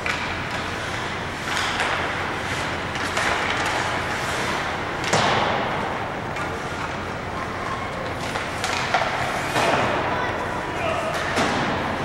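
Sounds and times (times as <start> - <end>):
ice hockey game din: 0.0 - 12.0.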